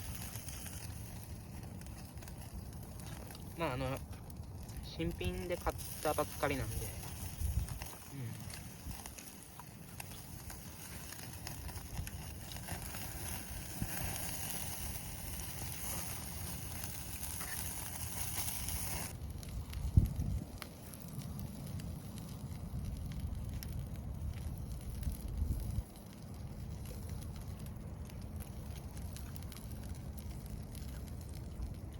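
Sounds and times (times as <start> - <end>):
campfire crackling: 0.0 - 31.9
steady low rumble: 0.0 - 31.9.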